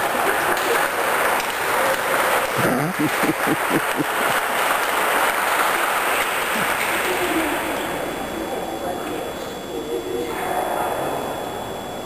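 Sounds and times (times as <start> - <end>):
indoor hall background noise: 0.0 - 12.0.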